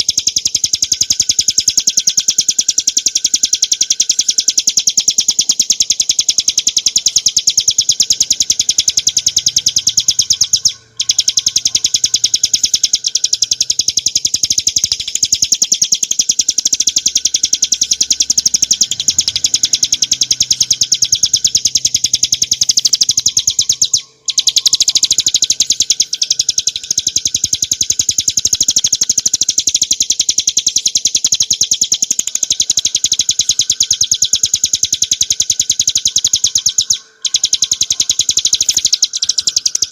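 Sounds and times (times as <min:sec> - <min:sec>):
bird singing rapid high chips: 0:00.0 - 0:39.9.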